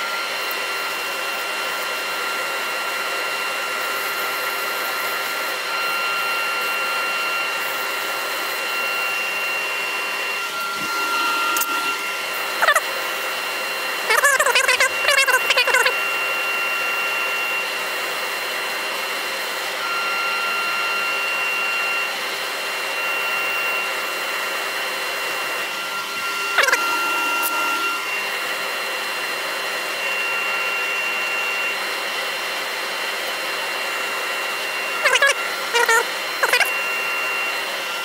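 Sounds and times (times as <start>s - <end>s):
dust extractor running: 0.0s - 38.0s
wood lathe whine: 0.0s - 38.0s.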